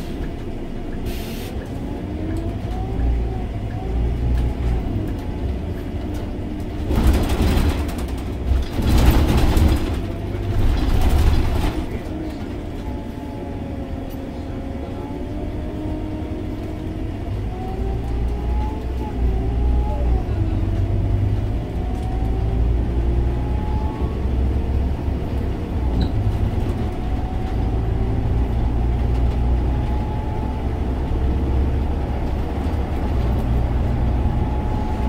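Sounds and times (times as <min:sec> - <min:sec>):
bus engine rumble: 0:00.0 - 0:35.0
engine whine: 0:00.0 - 0:35.0.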